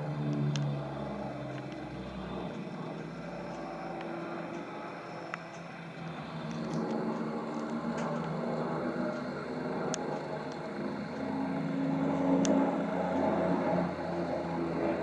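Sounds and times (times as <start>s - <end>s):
propeller aircraft droning overhead: 0.0s - 15.0s.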